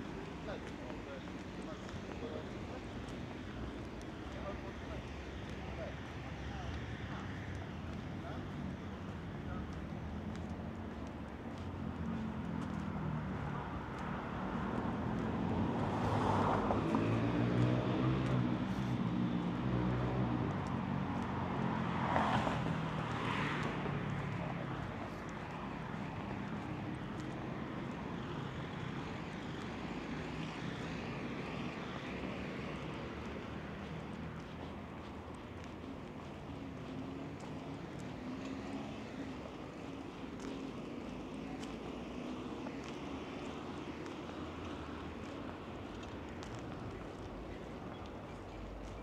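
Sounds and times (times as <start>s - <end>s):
city traffic hum: 0.0s - 49.0s.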